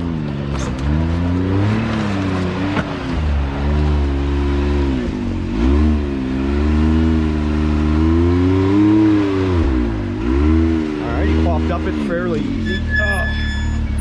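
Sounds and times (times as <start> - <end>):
engine revving under load: 0.0 - 14.0.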